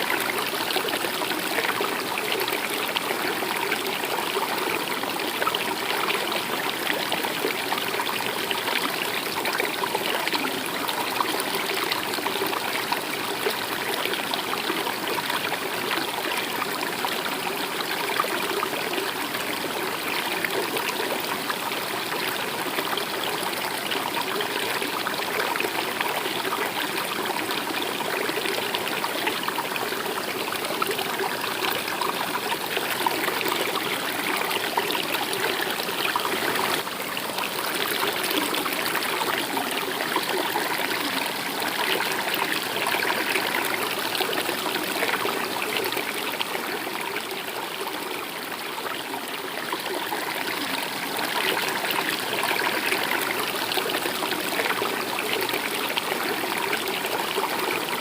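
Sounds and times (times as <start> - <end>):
stream of water running: 0.0 - 58.0.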